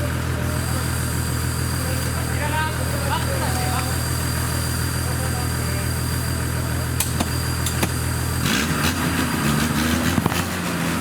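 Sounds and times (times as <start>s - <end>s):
truck engine idling and revving: 0.0s - 11.0s.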